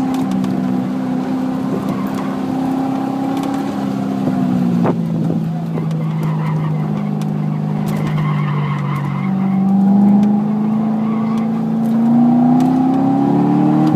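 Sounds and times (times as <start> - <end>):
car engine from inside cabin: 0.0 - 13.9
tires squealing: 0.0 - 13.9.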